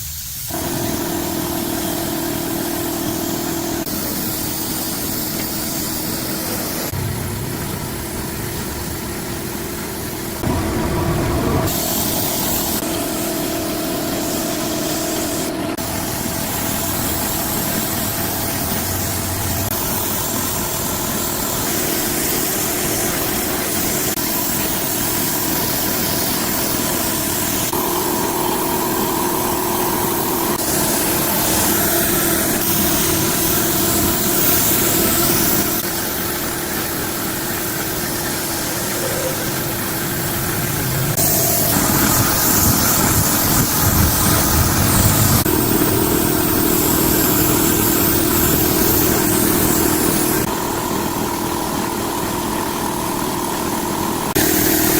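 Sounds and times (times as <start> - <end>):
diesel engine running: 0.5 - 54.9.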